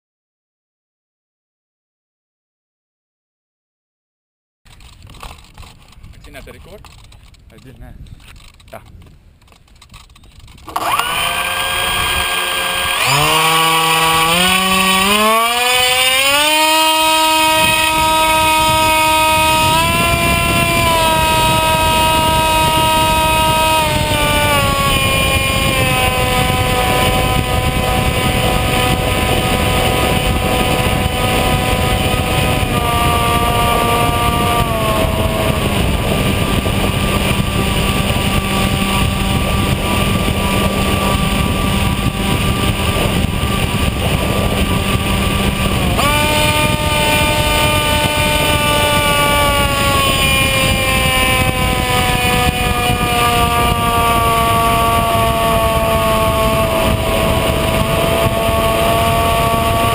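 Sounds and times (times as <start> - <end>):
electric motor and propeller whining: 4.7 - 59.9
wind rush: 4.7 - 59.9.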